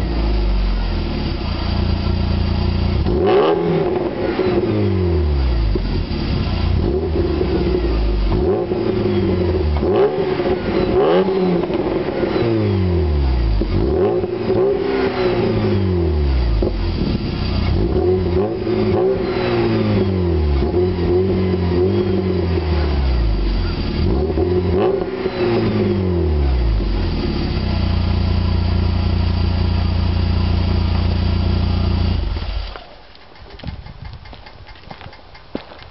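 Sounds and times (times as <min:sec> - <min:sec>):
car engine revving and idling: 0:00.0 - 0:32.9.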